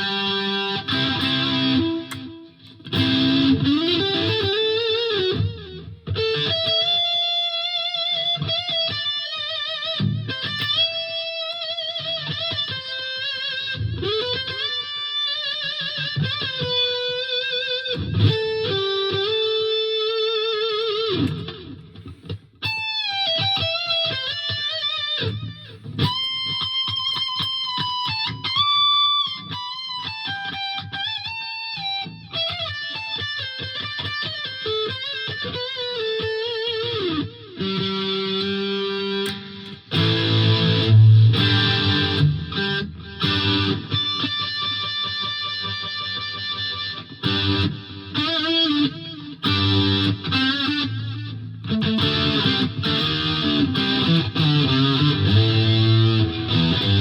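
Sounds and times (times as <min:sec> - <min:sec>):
electric guitar chords: 0:00.0 - 0:57.0
overdriven electric guitar solo: 0:00.0 - 0:57.0.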